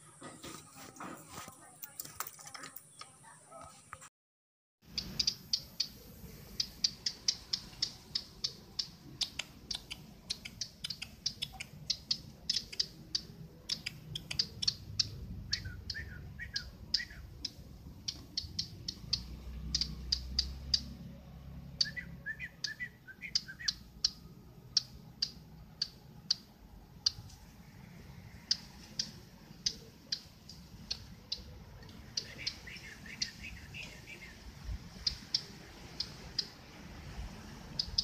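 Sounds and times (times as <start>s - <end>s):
songbird chirping: 0.0s - 4.1s, 4.8s - 38.0s
soft bird twittering: 4.9s - 38.0s.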